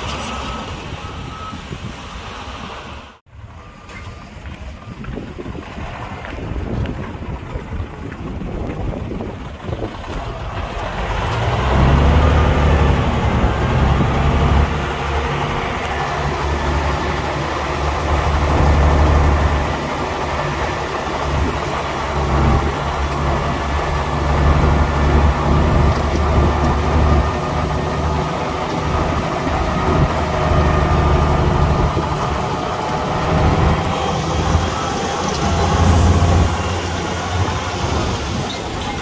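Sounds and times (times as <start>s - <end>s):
heavy diesel engine: 0.0s - 39.0s.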